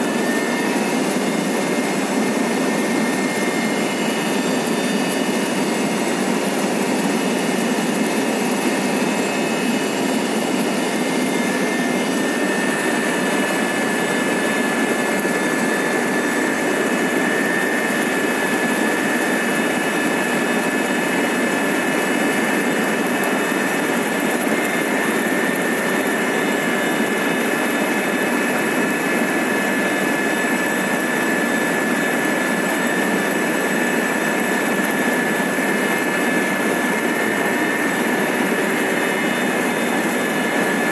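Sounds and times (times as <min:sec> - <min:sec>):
helicopter engine and rotor din: 0:00.0 - 0:40.9
high steady whine: 0:00.0 - 0:40.9.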